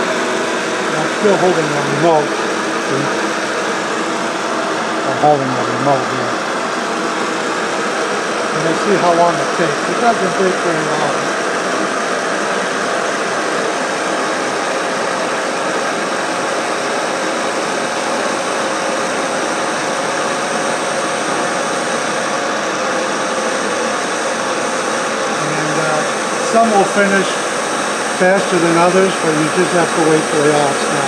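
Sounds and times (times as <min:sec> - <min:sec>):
electric motors humming and whining: 0:00.0 - 0:31.0.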